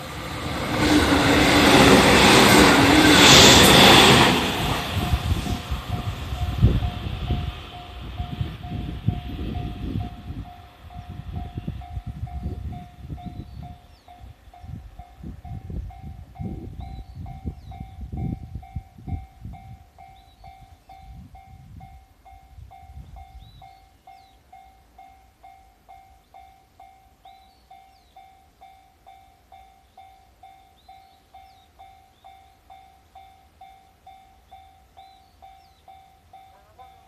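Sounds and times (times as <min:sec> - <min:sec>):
passing electric train: 0:00.0 - 0:37.0
level-crossing warning bell: 0:00.9 - 0:37.0.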